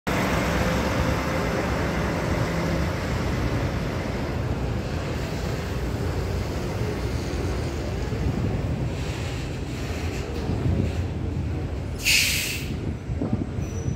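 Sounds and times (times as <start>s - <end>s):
bus engine driving past: 0.1s - 13.9s.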